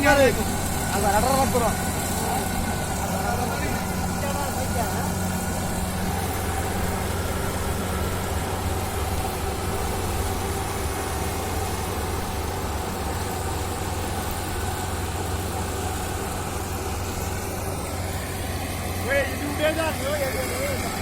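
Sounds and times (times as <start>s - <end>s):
harvesting machine engine humming: 0.0s - 21.0s.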